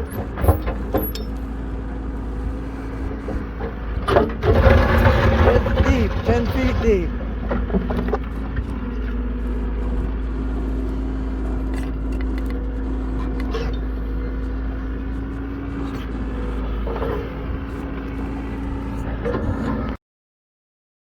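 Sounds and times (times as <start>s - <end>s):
digging machine engine humming: 0.0s - 19.9s.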